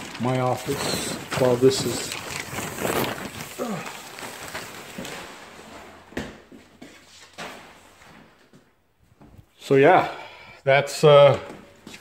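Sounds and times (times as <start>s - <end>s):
rustling handling noise: 0.0s - 9.8s.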